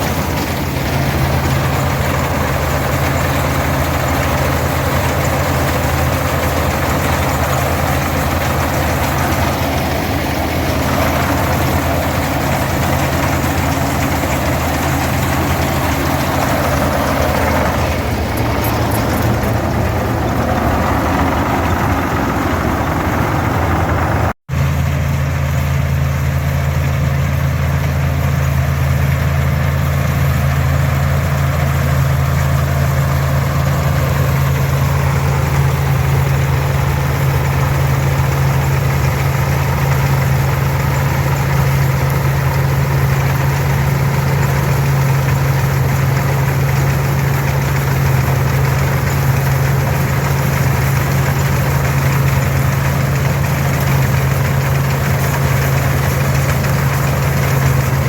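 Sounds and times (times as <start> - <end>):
tractor and combine engine drone: 0.0 - 58.0.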